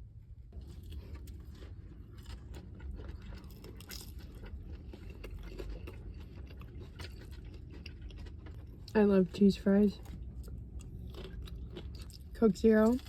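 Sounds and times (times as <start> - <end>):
person chewing crunchy food: 0.5 - 13.0.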